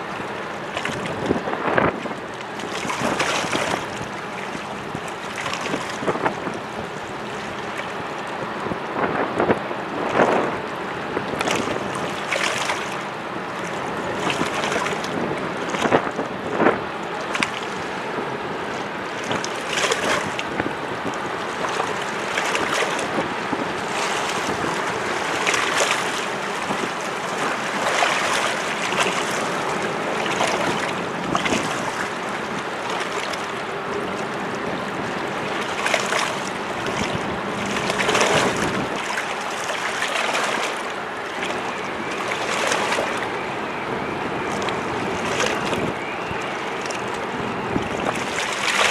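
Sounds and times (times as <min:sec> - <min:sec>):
waves splashing against rocks: 0:00.0 - 0:48.9
wind on microphone: 0:00.7 - 0:33.0, 0:33.7 - 0:39.2, 0:41.4 - 0:48.9.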